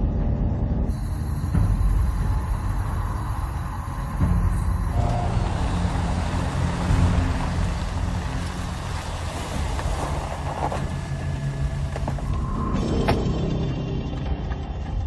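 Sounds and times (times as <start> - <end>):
car engine and tyre noise: 0.8 - 15.0.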